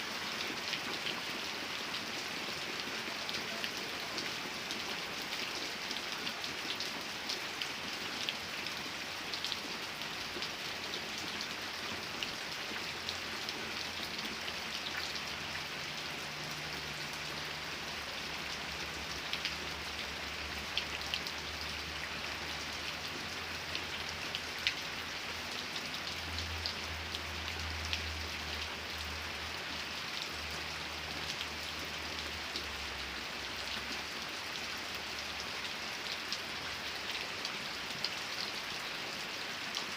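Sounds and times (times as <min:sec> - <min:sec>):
steady rain with dripping drops: 0:00.0 - 0:39.9.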